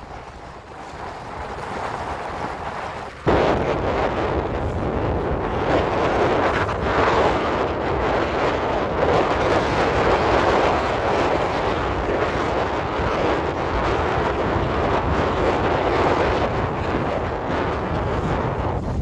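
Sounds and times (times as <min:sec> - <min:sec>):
low rumble: 0:00.0 - 0:19.0
wind on microphone: 0:00.0 - 0:19.0.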